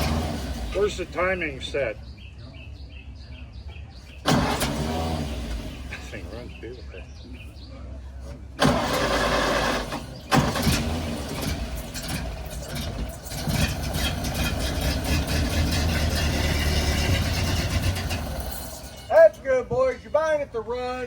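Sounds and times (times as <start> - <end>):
car engine running: 0.0 - 2.2, 4.2 - 19.9.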